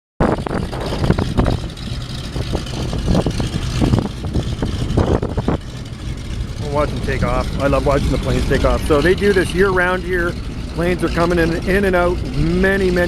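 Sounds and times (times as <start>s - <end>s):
wind on microphone: 0.2s - 12.8s
propeller plane engine droning: 0.2s - 13.0s.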